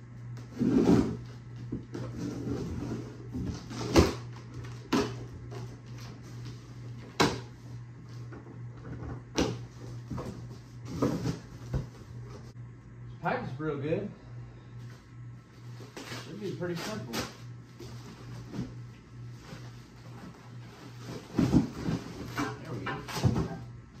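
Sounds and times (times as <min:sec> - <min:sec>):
low hum: 0:00.0 - 0:24.0
cardboard and packing rustling: 0:00.4 - 0:12.6, 0:15.4 - 0:23.6.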